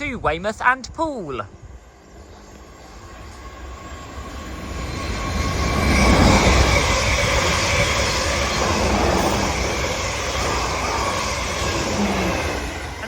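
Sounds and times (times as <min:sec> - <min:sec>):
train rushing past: 0:01.2 - 0:13.0.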